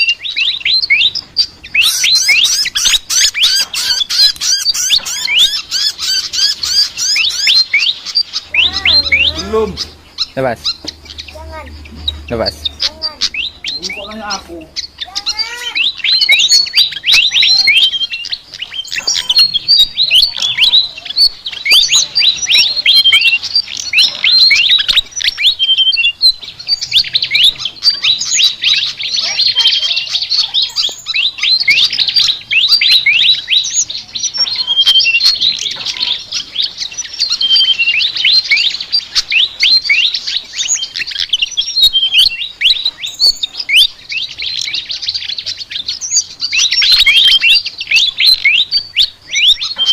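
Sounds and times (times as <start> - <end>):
bird chattering song: 0.0 - 49.9.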